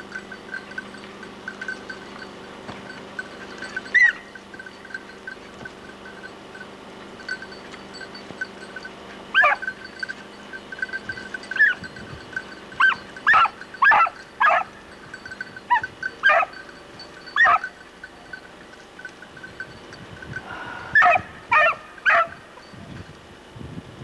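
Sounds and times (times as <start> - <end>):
hound baying: 0.0 - 19.8, 20.9 - 22.6.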